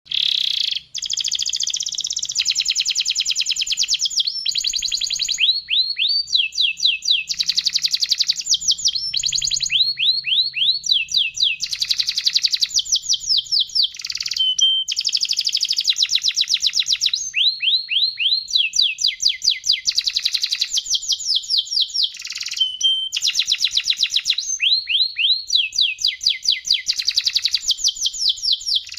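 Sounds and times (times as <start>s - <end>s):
canary singing: 0.1s - 28.9s.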